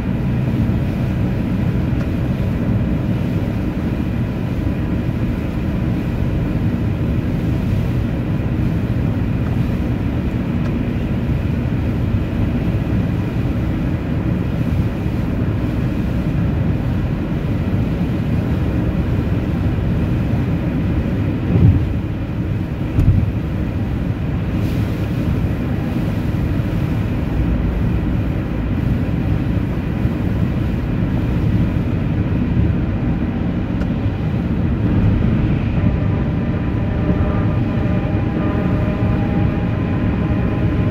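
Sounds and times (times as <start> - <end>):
vehicle driving rumble: 0.0 - 40.9.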